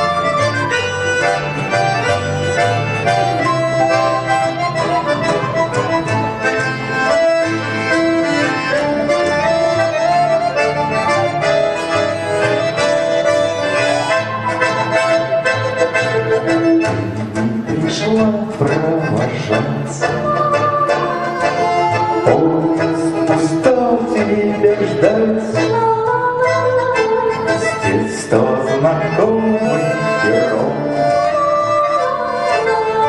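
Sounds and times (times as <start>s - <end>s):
accordion playing chords: 0.0s - 33.0s.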